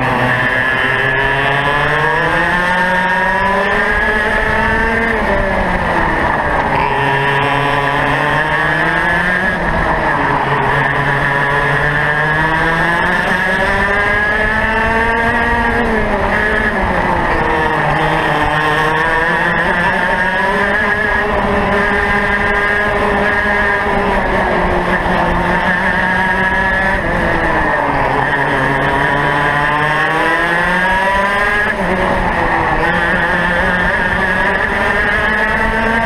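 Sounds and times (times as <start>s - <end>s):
kart engine accelerating: 0.0s - 36.0s.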